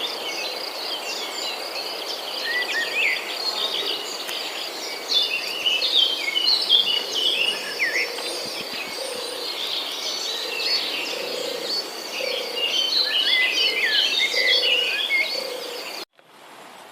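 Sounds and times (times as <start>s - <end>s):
small birds chirping: 0.0s - 16.1s.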